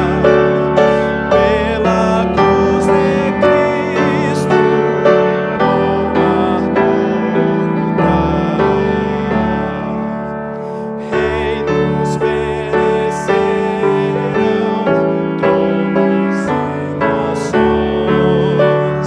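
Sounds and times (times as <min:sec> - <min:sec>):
people singing: 0:00.0 - 0:10.2, 0:11.0 - 0:19.0
piano playing a hymn: 0:00.0 - 0:19.0.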